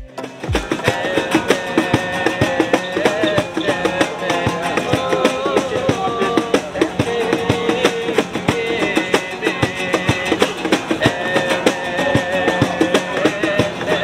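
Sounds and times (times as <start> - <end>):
guitar music with steady beat: 0.0 - 14.0.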